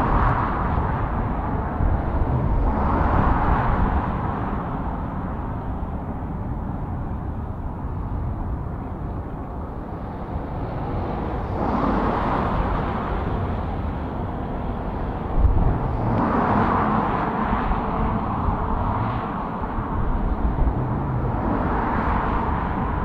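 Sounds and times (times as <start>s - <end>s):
cars passing close by: 0.0s - 23.0s
low traffic rumble: 0.0s - 23.0s.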